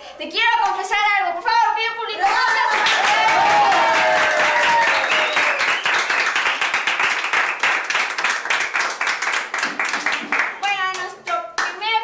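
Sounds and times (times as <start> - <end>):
people clapping: 2.2 - 12.0.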